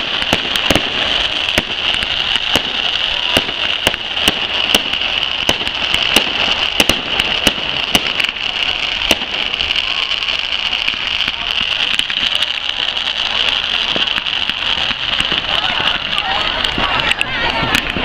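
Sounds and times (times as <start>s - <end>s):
fireworks bangs: 0.0s - 18.0s
fireworks crackling hiss: 0.0s - 18.0s.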